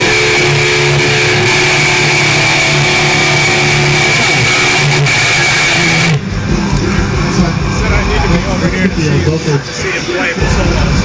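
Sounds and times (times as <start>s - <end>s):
distorted electric guitar: 0.0s - 11.0s.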